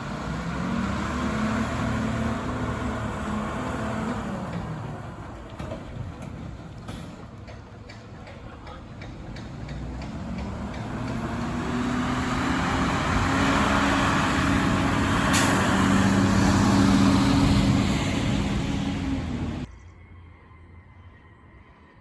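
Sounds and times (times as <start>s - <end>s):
garbage truck engine drone: 0.0s - 7.8s, 8.9s - 19.7s.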